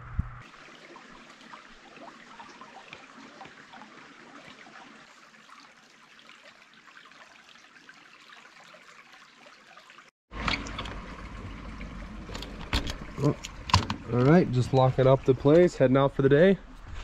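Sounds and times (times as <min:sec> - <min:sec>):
creek trickling over rocks: 0:00.4 - 0:16.4.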